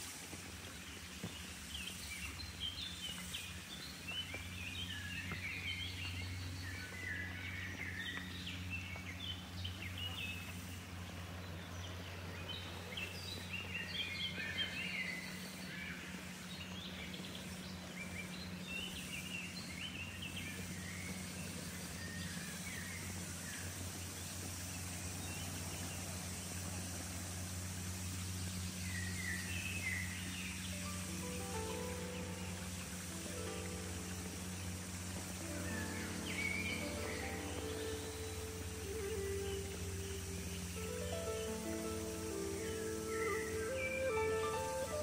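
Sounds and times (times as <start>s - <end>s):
birds chirping: 0.0s - 45.0s
low hum: 0.0s - 45.0s.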